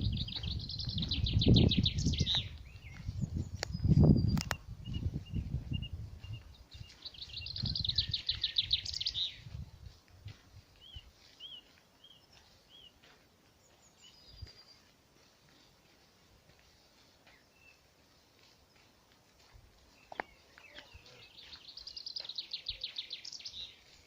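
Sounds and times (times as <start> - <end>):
songbirds singing: 0.0 - 10.0, 10.6 - 24.0.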